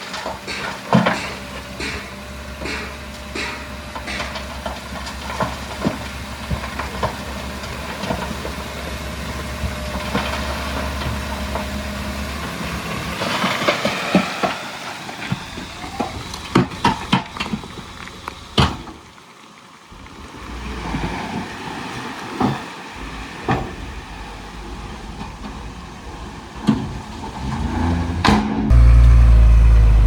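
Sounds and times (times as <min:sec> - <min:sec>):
diesel engine hum: 0:00.0 - 0:19.0, 0:22.9 - 0:30.0.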